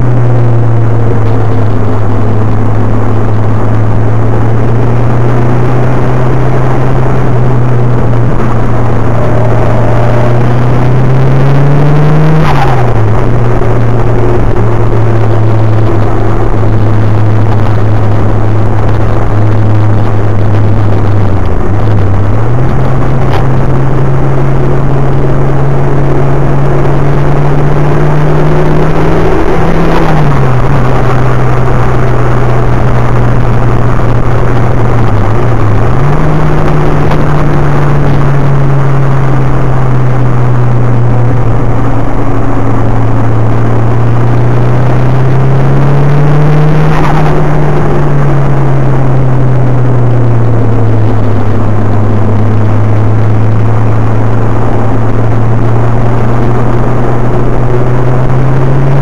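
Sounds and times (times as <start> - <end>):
car engine running hard: 0.0 - 59.0
road and wind noise: 0.0 - 59.0.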